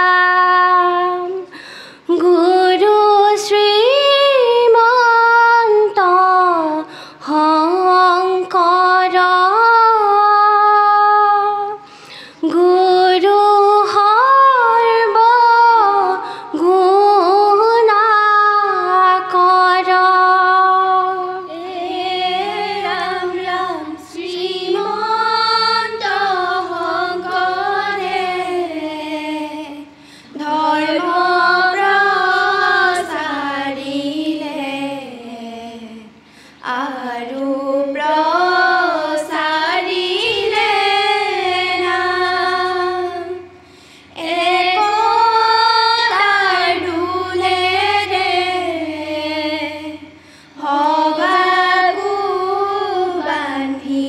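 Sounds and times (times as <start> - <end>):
girls singing devotional chant: 0.0 - 1.5, 2.1 - 54.0.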